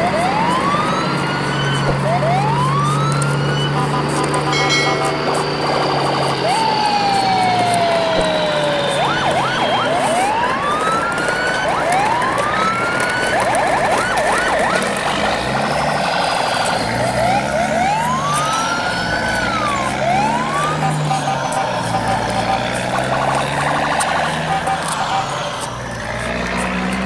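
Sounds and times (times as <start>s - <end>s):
sirens wailing and yelping: 0.0s - 27.0s.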